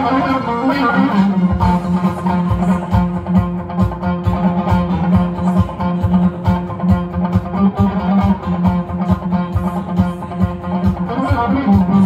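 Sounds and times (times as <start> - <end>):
disco backing track: 0.0 - 12.0
electric guitar: 0.0 - 12.0.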